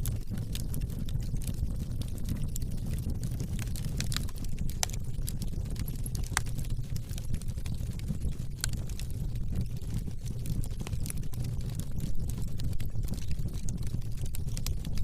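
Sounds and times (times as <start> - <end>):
burning logs crackling and popping: 0.0 - 15.0
rumble of fire flames: 0.0 - 15.0.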